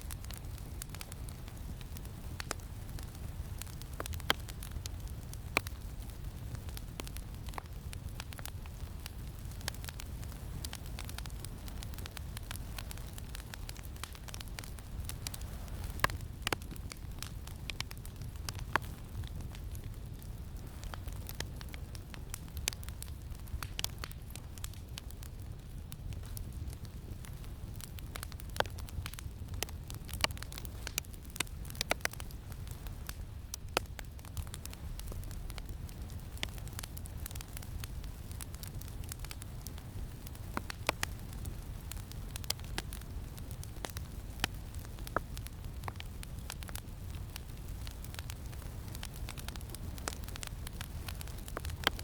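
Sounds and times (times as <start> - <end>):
campfire crackling and popping: 0.0 - 52.0
low rumble of wind: 0.0 - 52.0.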